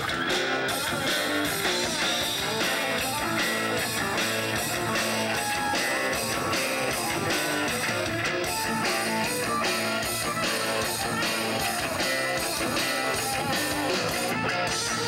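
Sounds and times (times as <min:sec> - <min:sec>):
drum beat: 0:00.0 - 0:15.0
electric guitar: 0:00.0 - 0:15.0.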